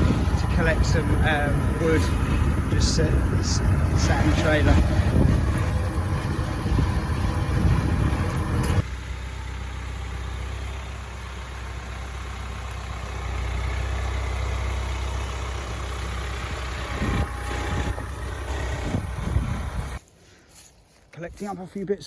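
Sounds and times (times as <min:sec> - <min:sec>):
tractor diesel engine running: 0:00.0 - 0:20.6.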